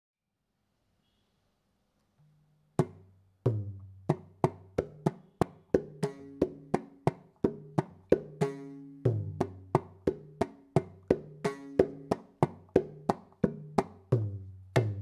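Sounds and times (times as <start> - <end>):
mridangam strokes: 2.8 - 15.0.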